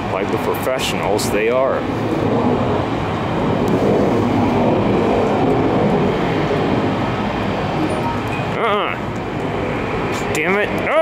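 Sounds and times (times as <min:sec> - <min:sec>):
jet airliner rumble: 0:00.0 - 0:11.0.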